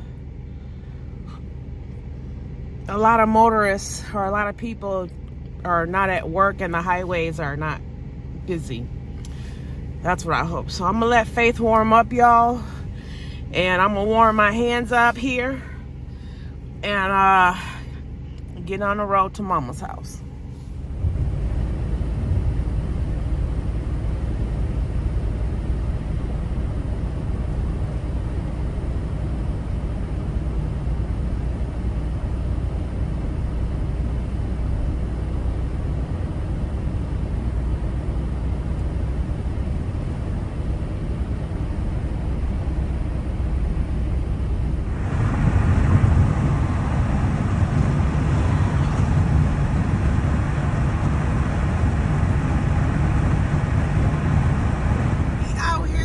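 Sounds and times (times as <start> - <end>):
van engine and road noise: 0.0 - 56.0.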